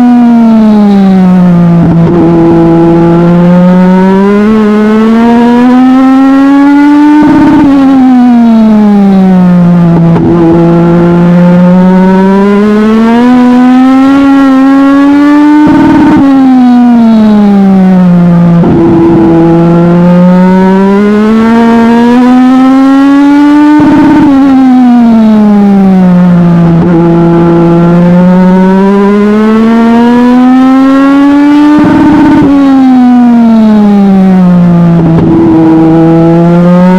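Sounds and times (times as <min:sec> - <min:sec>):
race car engine revving: 0:00.0 - 0:36.9.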